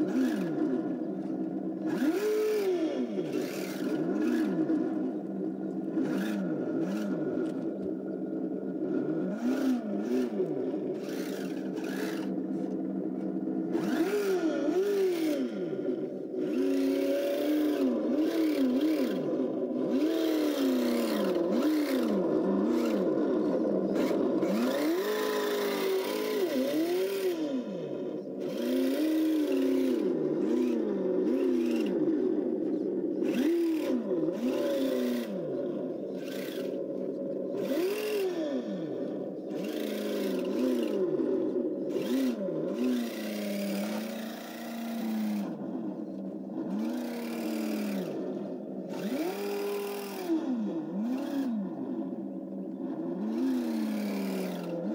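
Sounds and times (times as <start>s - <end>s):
simulated engine through small speaker: 0.0s - 54.9s.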